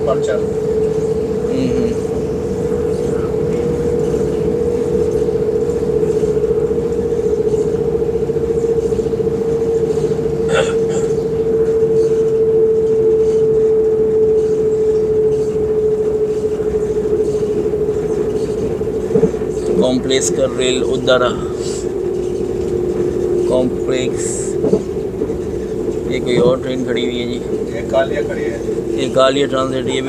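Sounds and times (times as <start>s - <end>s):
electric train whine: 0.0s - 30.0s
wheels rumbling on track: 0.0s - 30.0s.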